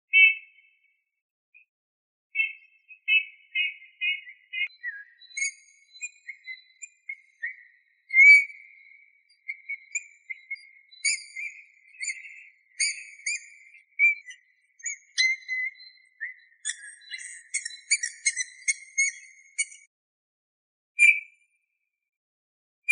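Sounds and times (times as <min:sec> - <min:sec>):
bird singing soft whistles: 0:00.1 - 0:00.8, 0:02.4 - 0:19.9, 0:21.0 - 0:21.3.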